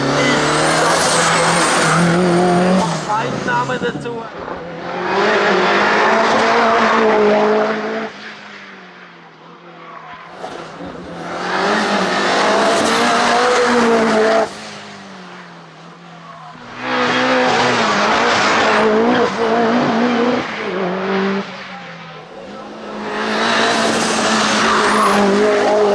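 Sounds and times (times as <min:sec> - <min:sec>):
car engine revving hard: 0:00.0 - 0:04.0, 0:04.6 - 0:08.1, 0:10.3 - 0:15.1, 0:16.7 - 0:21.6, 0:22.2 - 0:25.9.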